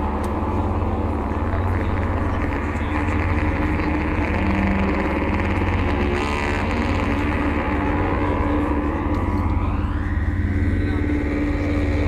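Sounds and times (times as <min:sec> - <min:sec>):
live band droning instrumental: 0:00.0 - 0:12.0
synthesizer low tones: 0:00.0 - 0:12.0.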